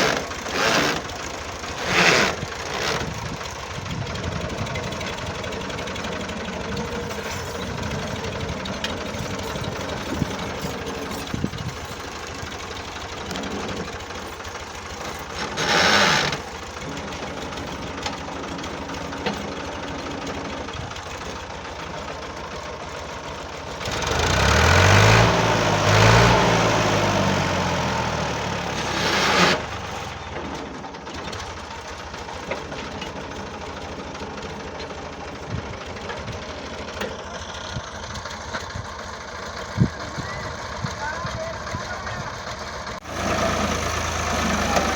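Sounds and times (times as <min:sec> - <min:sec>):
tractor engine knocking clatter: 0:00.0 - 0:44.9.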